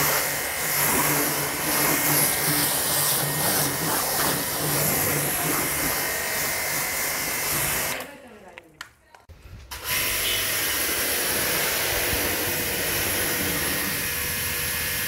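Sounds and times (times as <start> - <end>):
pressure washer motor humming: 0.0 - 8.0, 9.9 - 15.0
water jet hissing: 0.0 - 8.0, 10.0 - 14.8.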